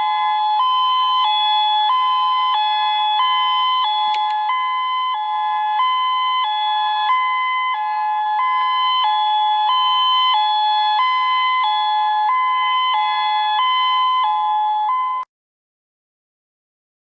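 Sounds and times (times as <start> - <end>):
electronic alarm alternating pitches: 0.0 - 15.3.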